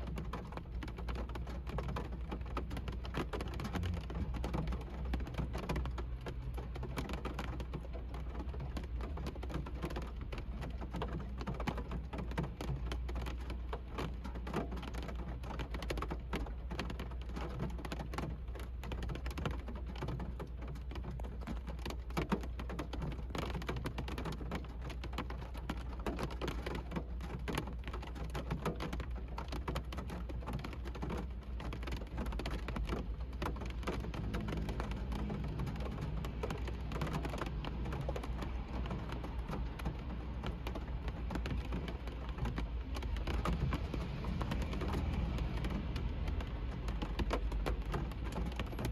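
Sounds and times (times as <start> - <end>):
rain pattering on car roof: 0.0 - 48.9.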